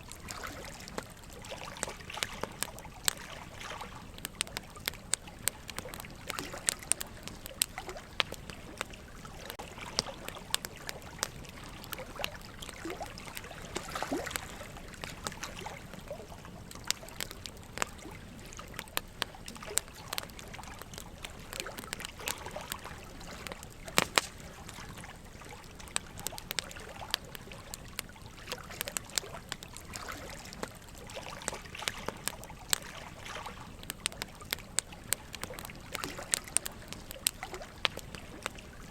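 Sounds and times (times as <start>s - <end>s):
trickle of running water: 0.0s - 38.9s
wood fire crackling and popping: 0.0s - 38.9s.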